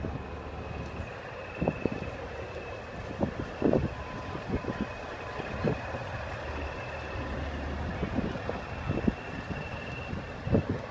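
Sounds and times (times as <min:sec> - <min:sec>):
large vehicle engine rumbling: 0:00.0 - 0:10.9.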